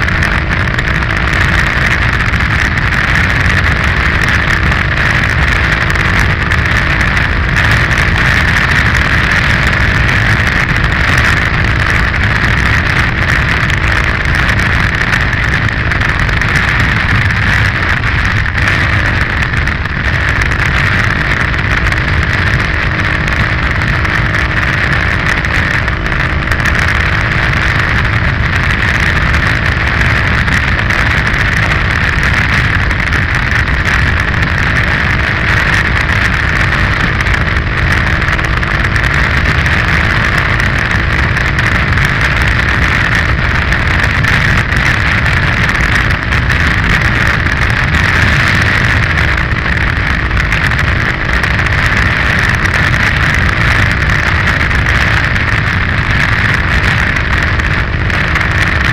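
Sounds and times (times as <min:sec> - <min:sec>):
motorcycle engine running: 0:00.0 - 0:58.9
wind noise on microphone: 0:00.0 - 0:58.9.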